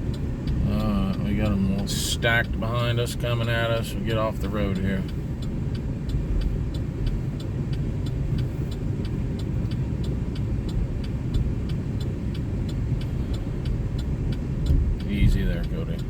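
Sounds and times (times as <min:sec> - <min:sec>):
regular ticking: 0:00.0 - 0:16.0
vehicle engine running: 0:00.0 - 0:16.0.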